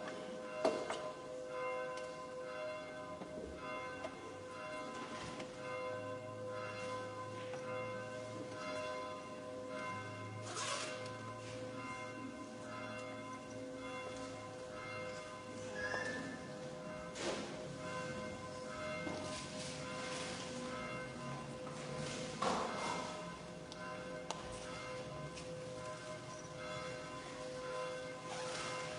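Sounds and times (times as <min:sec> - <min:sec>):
church bells ringing: 0:00.0 - 0:28.9.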